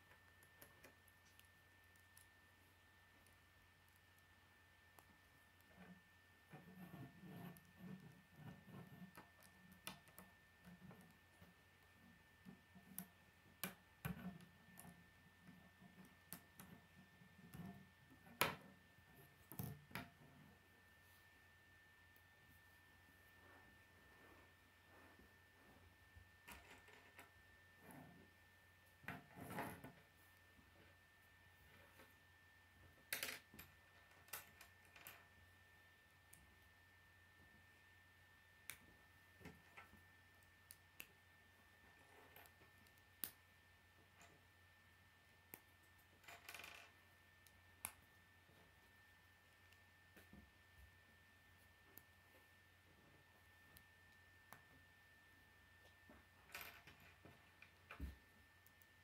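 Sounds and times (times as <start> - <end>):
faint steady whine: 0.0 - 59.0.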